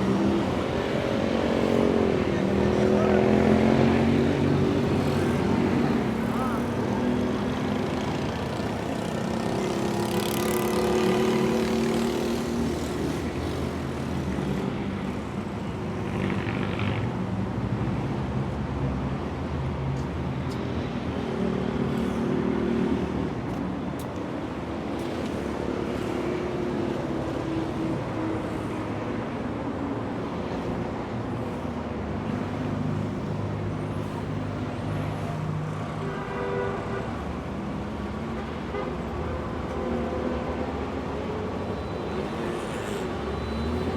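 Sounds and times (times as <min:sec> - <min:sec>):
engine hum and tyre noise: 0:00.0 - 0:35.6
cars passing: 0:00.0 - 0:36.0.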